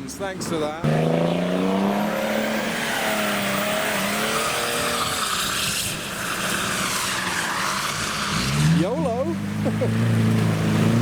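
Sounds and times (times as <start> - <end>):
car engines running: 0.0 - 11.0
tyres hissing on wet road: 2.0 - 10.8.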